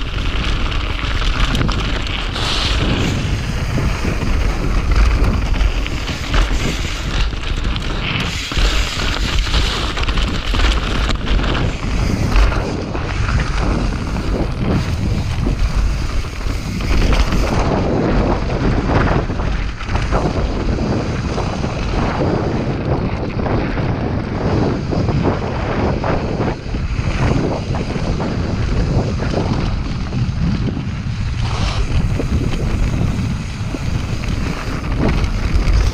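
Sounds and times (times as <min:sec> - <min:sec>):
bike rattling and knocking: 0:00.0 - 0:35.9
tyres rumbling on dirt and stones: 0:00.0 - 0:35.9
wind buffeting microphone: 0:00.0 - 0:35.9.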